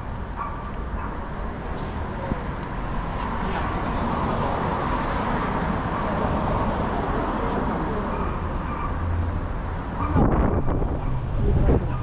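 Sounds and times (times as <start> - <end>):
passing car traffic: 0.0 - 12.0.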